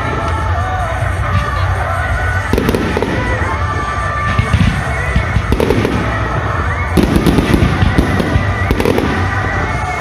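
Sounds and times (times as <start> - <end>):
fireworks bangs and crackle: 0.0 - 10.0.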